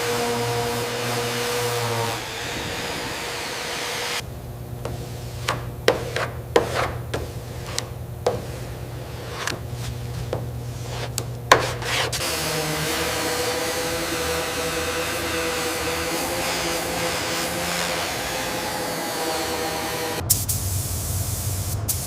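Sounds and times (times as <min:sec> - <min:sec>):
hissing machine noise: 0:00.0 - 0:20.8
steady low hum: 0:00.1 - 0:21.9.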